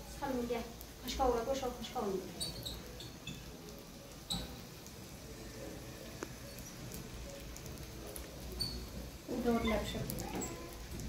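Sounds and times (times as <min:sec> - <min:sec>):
gas burner hissing: 0:00.0 - 0:11.0.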